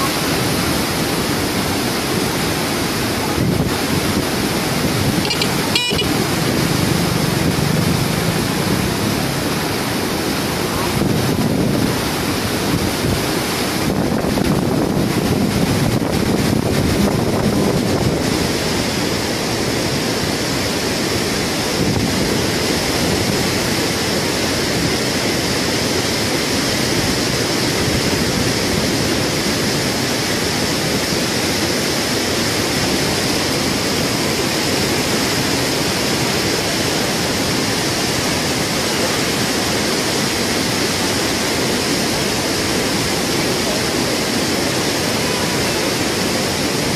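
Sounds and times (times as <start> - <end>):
river rushing through rapids: 0.0 - 46.9.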